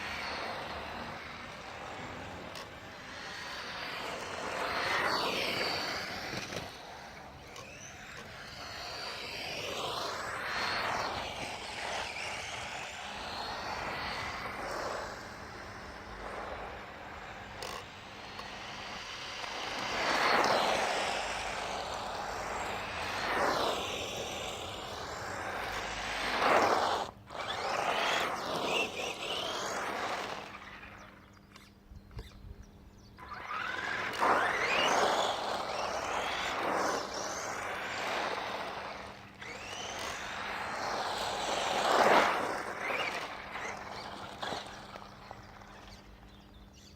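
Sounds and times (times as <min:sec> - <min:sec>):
radio-controlled car motor whine: 0:00.0 - 0:46.9.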